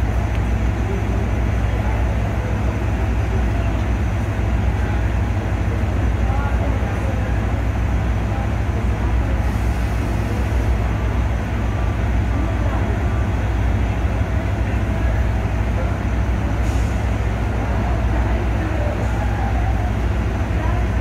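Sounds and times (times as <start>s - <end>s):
diesel trains idling: 0.0s - 21.0s
faint voices: 0.0s - 21.0s.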